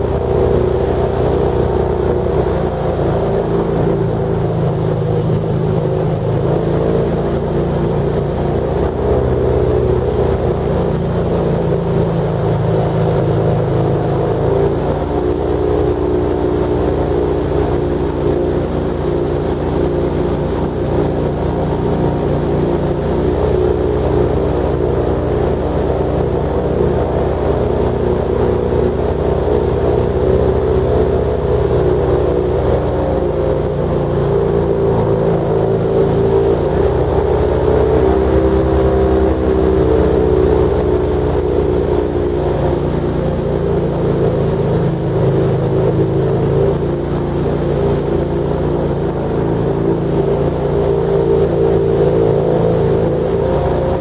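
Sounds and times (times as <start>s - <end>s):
airboat engine and propeller: 0.0s - 54.0s.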